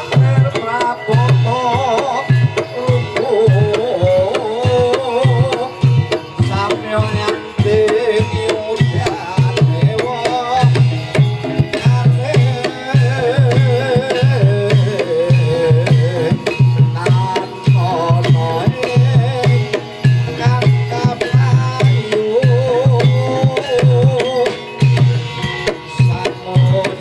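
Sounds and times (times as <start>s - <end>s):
metallophone tones: 0.0s - 27.0s.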